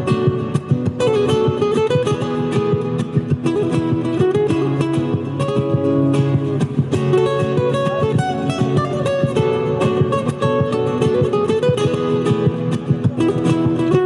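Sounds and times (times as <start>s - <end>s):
flamenco-style acoustic guitar: 0.0s - 14.0s.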